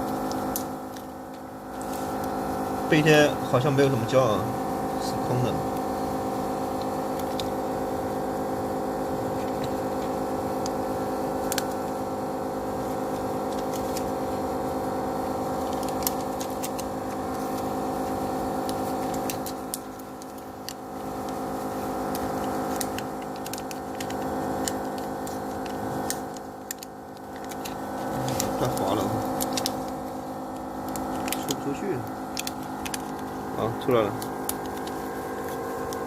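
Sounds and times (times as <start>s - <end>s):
machine electrical hum: 0.0s - 36.0s.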